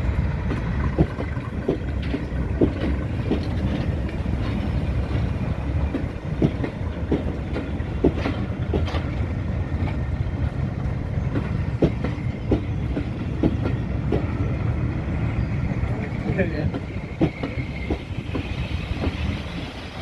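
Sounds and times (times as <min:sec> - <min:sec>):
diesel locomotive rumble: 0:00.0 - 0:20.0
wheels clicking over rail joints: 0:00.0 - 0:20.0.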